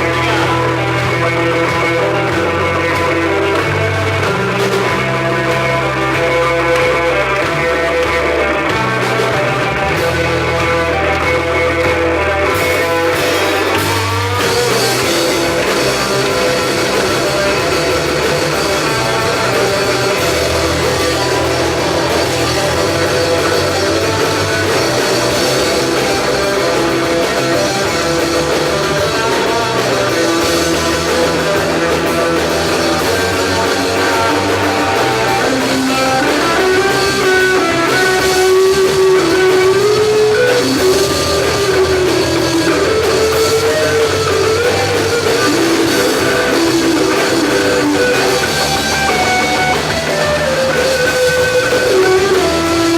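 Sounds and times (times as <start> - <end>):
guitar melody line: 0.0 - 52.9
rock band playing live: 0.0 - 52.9.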